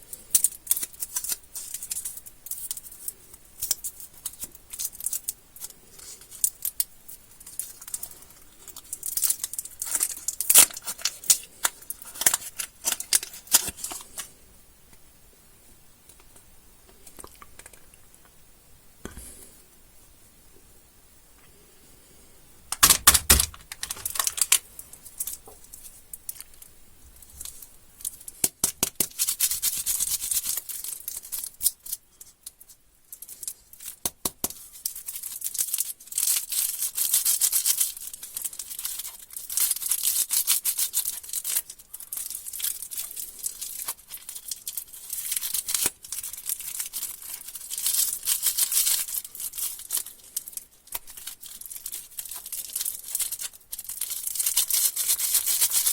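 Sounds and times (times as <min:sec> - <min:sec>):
plastic candy wrappers crinkling: 0:00.1 - 0:14.4, 0:17.0 - 0:18.1, 0:22.7 - 0:55.9.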